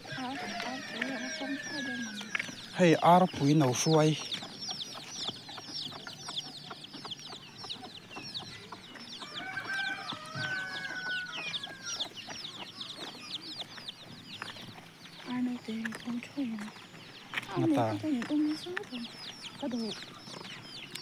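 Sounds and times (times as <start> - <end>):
chicken calls: 0.0 - 21.0
chicks peeping: 0.0 - 21.0.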